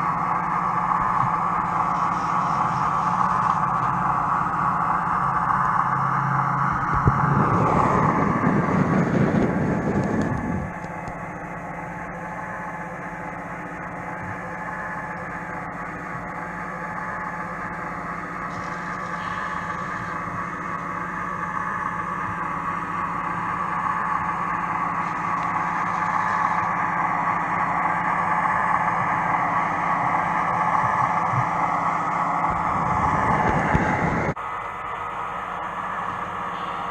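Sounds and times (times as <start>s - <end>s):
model train motor hum: 0.0s - 36.9s.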